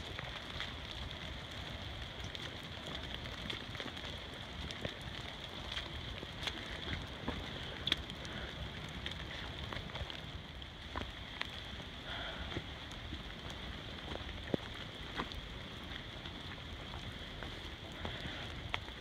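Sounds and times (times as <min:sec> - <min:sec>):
rain falling in forest: 0:00.0 - 0:19.0.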